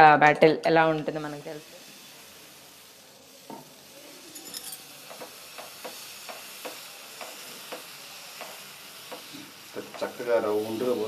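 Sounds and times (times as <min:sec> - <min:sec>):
batter sizzling on hot pan: 0:00.0 - 0:11.0.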